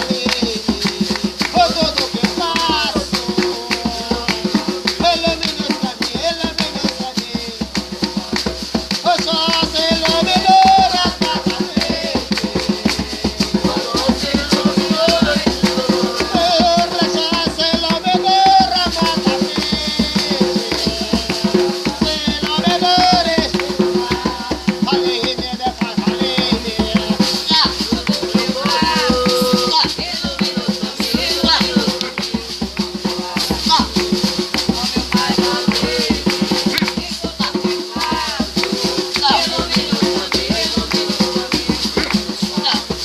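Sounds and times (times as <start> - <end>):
music with shaker rhythm: 0.0 - 43.0.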